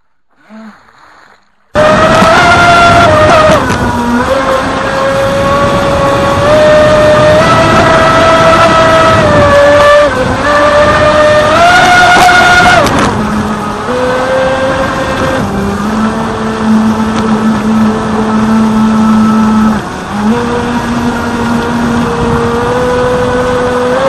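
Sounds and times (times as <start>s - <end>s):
electric motor whining: 1.8s - 24.0s.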